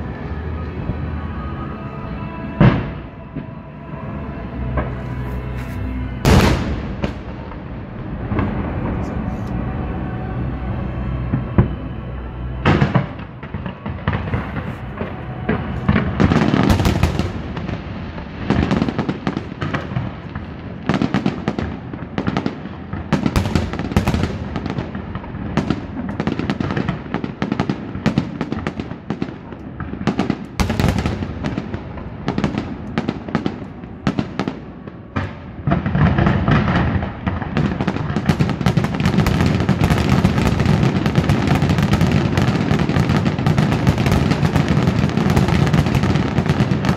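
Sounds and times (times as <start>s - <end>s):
fireworks barrage of bangs: 2.5s - 46.9s.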